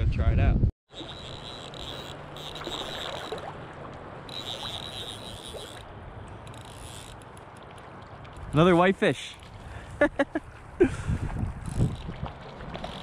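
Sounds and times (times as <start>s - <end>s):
river water flowing and lapping: 0.9s - 13.0s.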